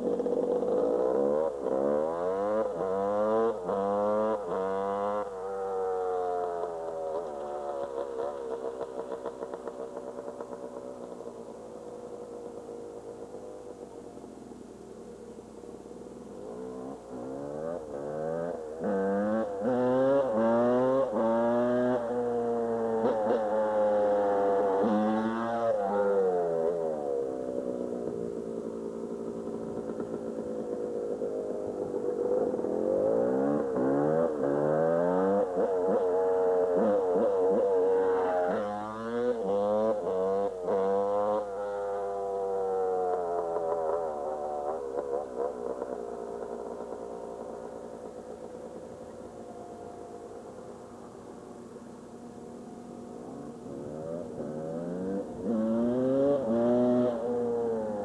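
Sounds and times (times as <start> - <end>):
dirt bike engine revving: 0.0 - 11.5, 16.3 - 51.9, 53.1 - 58.0.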